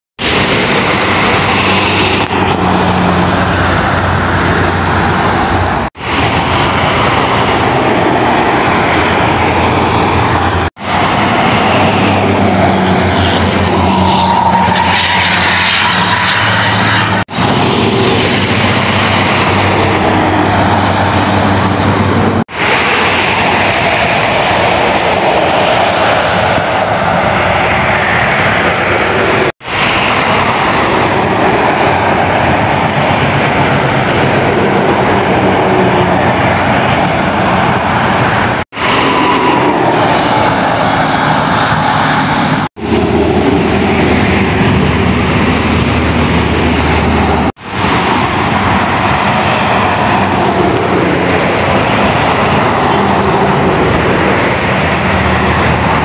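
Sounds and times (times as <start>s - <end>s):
highway traffic passing: 0.2s - 56.0s.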